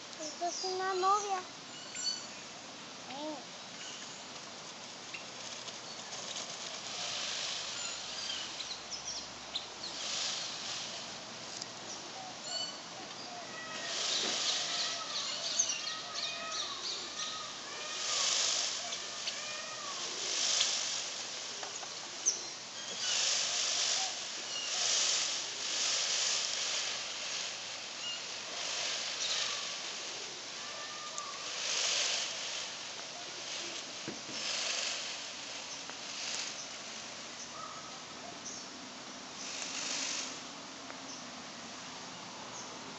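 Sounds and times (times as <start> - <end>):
small birds chirping: 0.0 - 2.5, 3.1 - 40.0
peacock feathers rattling: 3.9 - 38.0, 39.4 - 40.5.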